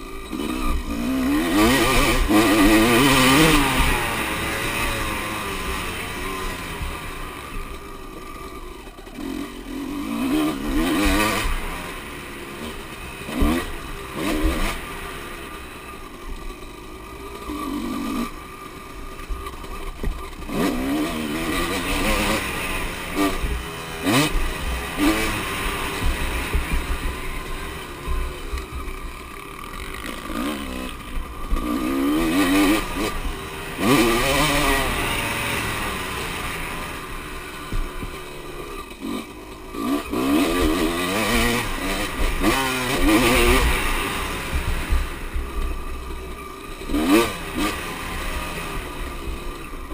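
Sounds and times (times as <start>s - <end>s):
motocross bikes revving past: 0.0s - 49.9s.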